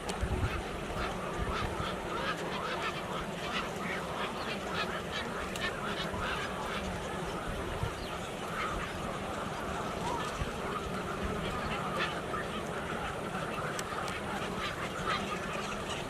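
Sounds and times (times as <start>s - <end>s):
flock of birds calling: 0.0s - 16.0s.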